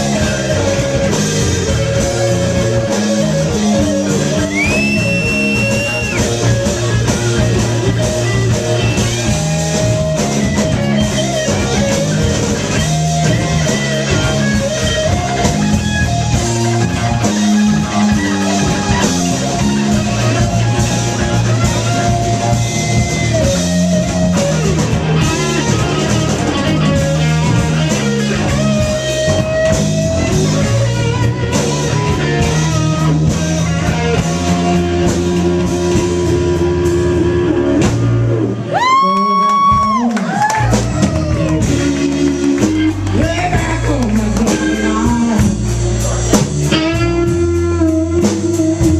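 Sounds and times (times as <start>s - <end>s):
bass line: 0.0s - 48.9s
drum kit: 0.0s - 48.9s
electric guitar lead: 0.0s - 48.9s.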